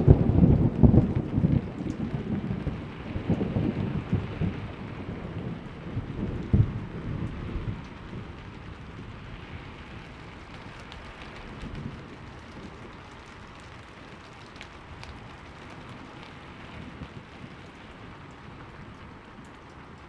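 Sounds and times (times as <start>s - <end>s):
steady rain: 0.0s - 20.0s
thunder rumbling: 0.0s - 20.0s.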